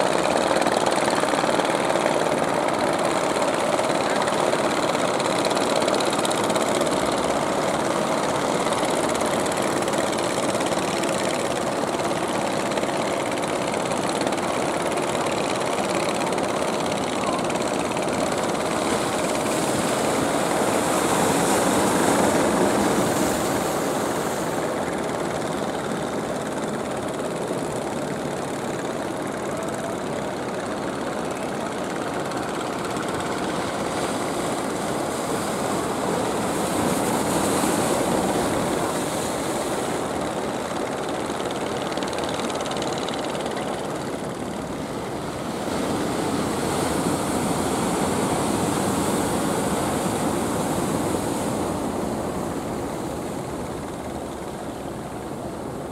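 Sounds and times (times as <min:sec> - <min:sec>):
boat engine running: 0:00.0 - 0:55.9
waves washing: 0:00.0 - 0:55.9.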